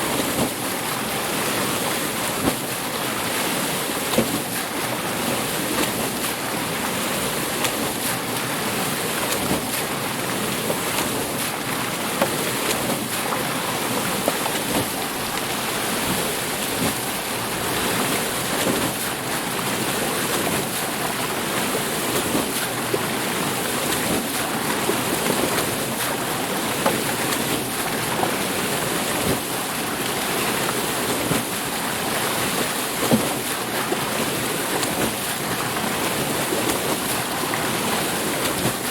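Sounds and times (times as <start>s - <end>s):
water rushing at mill wheel: 0.0s - 38.9s.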